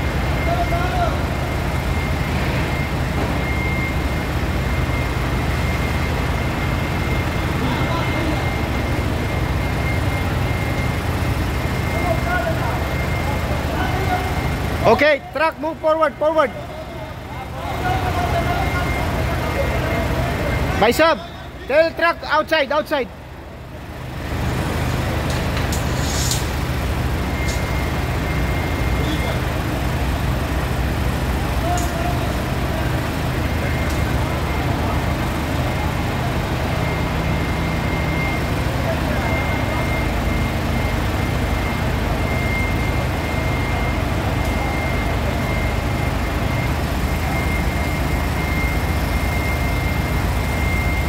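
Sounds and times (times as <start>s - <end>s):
forklift engine running: 0.0s - 51.0s.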